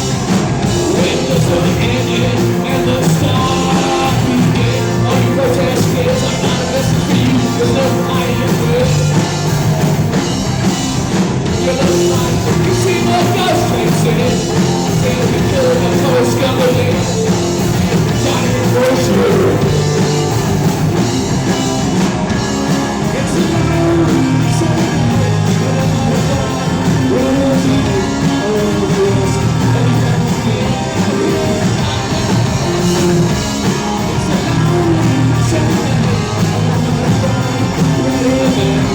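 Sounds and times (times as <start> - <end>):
rock band playing live: 0.0 - 38.9
person singing: 0.7 - 9.5, 11.5 - 20.6, 22.7 - 38.9.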